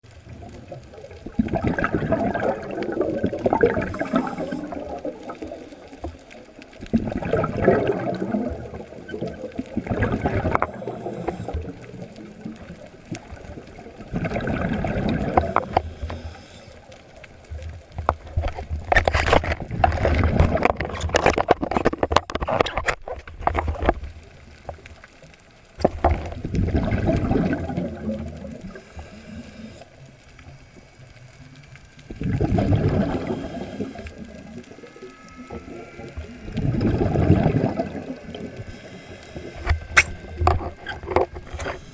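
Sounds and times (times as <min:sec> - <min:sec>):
underwater bubbling and gurgling: 0:00.0 - 0:41.9.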